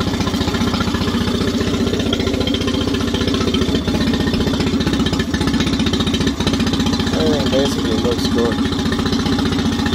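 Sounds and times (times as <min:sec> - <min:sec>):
outboard motor idling: 0:00.0 - 0:09.9.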